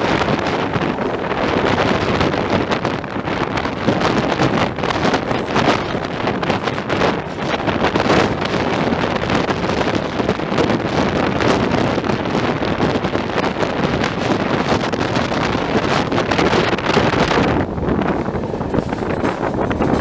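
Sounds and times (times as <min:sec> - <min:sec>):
moving train running noise: 0:00.0 - 0:20.0
wind buffeting microphone: 0:00.0 - 0:20.0.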